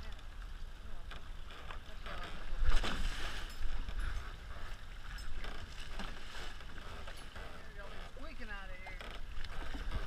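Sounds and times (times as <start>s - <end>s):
water splashing against boat hulls: 0.0s - 10.0s
wind rumbling on microphone: 0.0s - 10.0s.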